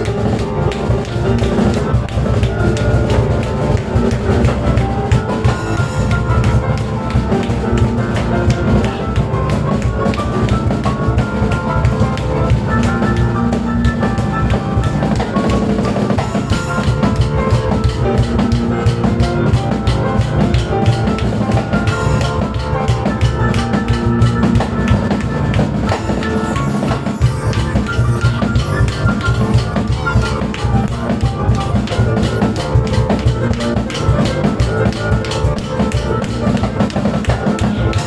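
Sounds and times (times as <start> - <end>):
acoustic piano: 0.0 - 38.0
drum kit and cajon drumming: 0.0 - 38.0.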